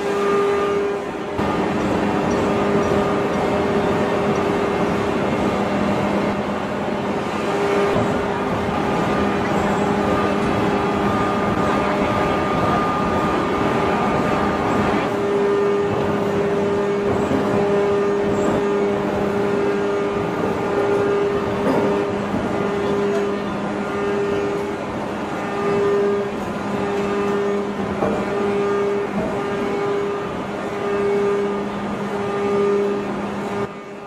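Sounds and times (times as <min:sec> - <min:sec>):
high machine whine: 0:00.0 - 0:34.0
machinery drone: 0:00.0 - 0:34.0.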